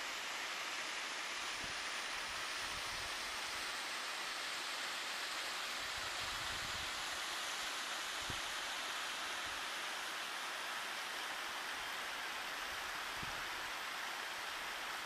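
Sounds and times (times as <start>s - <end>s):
mountain creek rushing over rocks: 0.0s - 15.0s.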